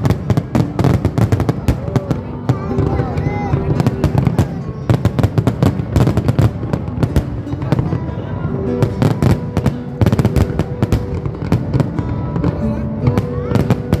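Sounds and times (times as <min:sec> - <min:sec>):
fireworks bangs and crackles: 0:00.0 - 0:14.0
music with held notes: 0:00.0 - 0:14.0.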